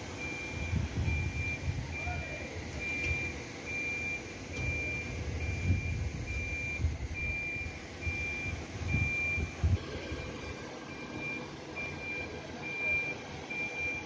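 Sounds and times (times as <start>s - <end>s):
truck reversing alarm beeping: 0.0s - 14.0s.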